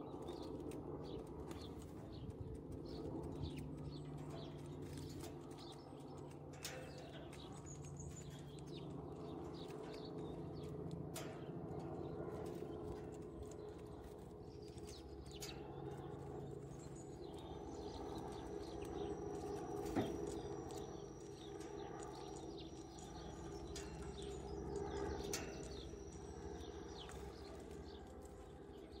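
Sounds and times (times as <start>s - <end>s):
birds pecking at wire feeder: 0.0s - 29.0s
steady low hum: 0.0s - 29.0s.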